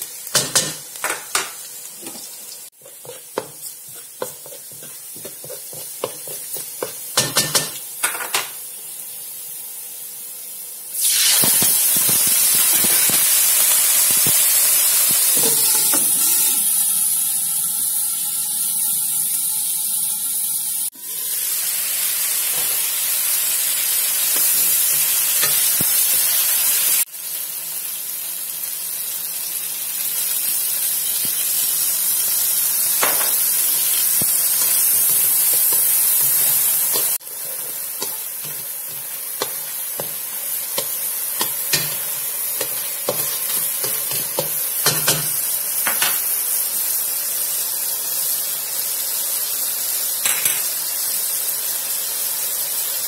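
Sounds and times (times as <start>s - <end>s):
chicken sizzling in hot oil: 0.0s - 53.0s.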